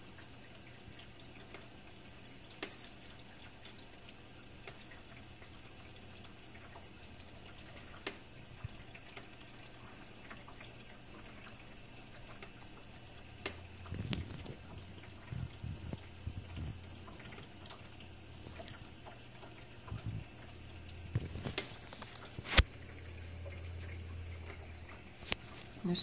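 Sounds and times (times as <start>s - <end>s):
dishwasher pump hum: 0.0s - 26.0s
water moving inside dishwasher: 0.0s - 26.0s.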